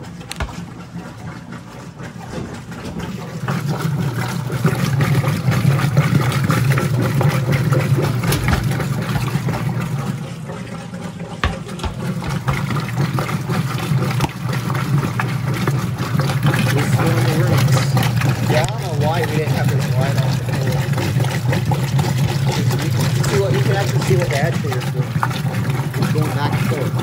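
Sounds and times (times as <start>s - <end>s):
washing machine agitating water: 0.0s - 27.0s.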